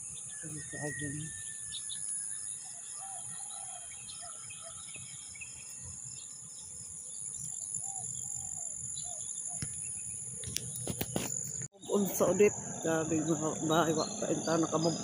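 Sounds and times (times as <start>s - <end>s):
crickets chirping chorus: 0.0s - 15.0s.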